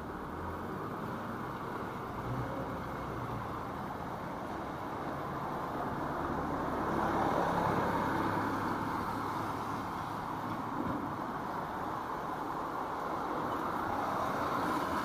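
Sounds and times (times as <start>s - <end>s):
street traffic noise: 0.0s - 15.0s
tyres hissing on wet road: 0.0s - 15.0s.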